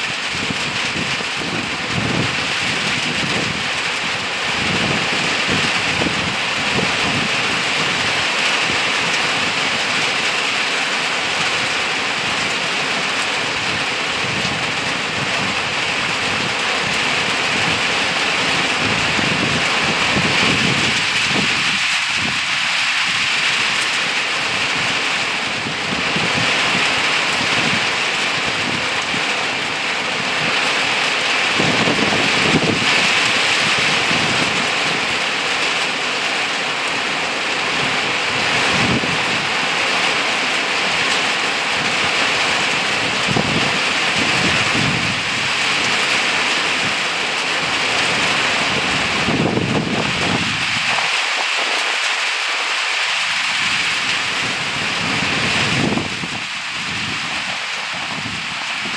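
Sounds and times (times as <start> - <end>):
rain falling on leaves: 0.0 - 58.9.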